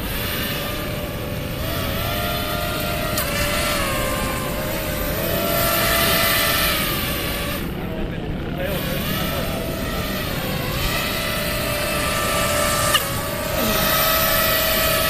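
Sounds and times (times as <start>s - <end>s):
air boat motors whining: 0.0s - 15.0s.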